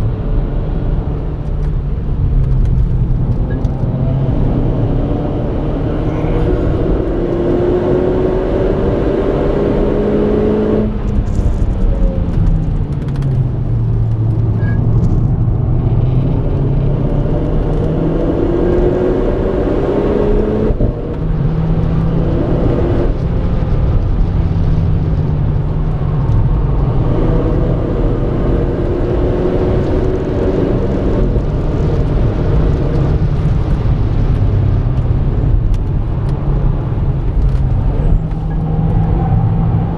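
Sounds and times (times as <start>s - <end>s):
car engine accelerating hard: 0.0s - 39.9s
road and tyre noise: 0.0s - 39.9s.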